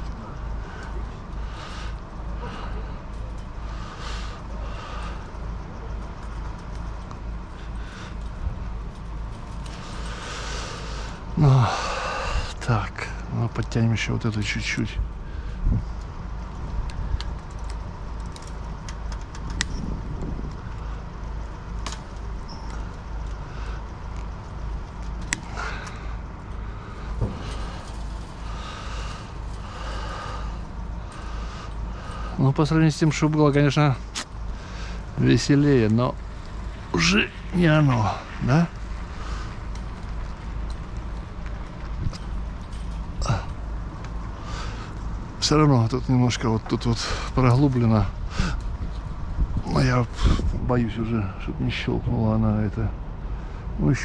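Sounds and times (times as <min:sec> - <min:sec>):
wire mesh rustling and clicking: 0:00.0 - 0:11.3, 0:15.9 - 0:47.9
wind buffeting microphone: 0:00.0 - 0:52.2
steady low rumble: 0:00.0 - 0:54.0.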